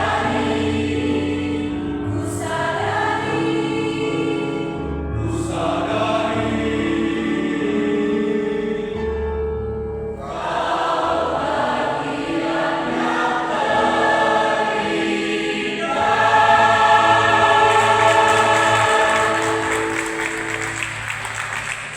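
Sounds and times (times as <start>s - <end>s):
choir singing: 0.0s - 9.2s, 10.2s - 21.9s.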